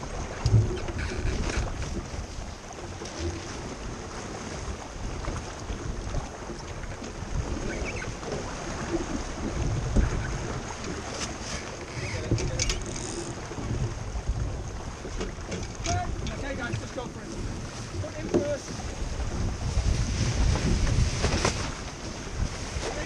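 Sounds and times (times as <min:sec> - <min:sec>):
water rushing along boat hull: 0:00.0 - 0:23.0
wind buffeting microphone: 0:00.0 - 0:23.0.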